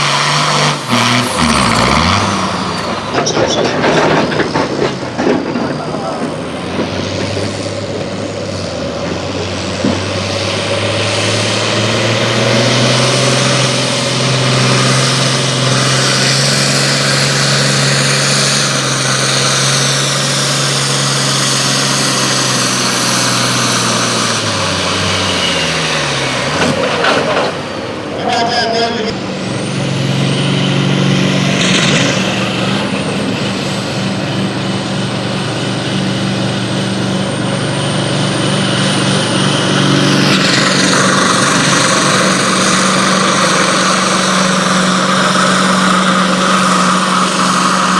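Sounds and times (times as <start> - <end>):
vehicle engine running hard: 0.0 - 47.9.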